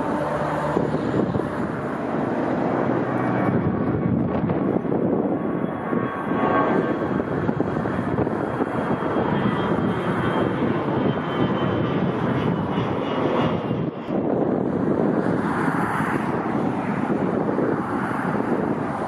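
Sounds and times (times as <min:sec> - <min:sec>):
airliner engines rushing: 0:00.0 - 0:19.0
faint high engine whine: 0:00.0 - 0:19.0.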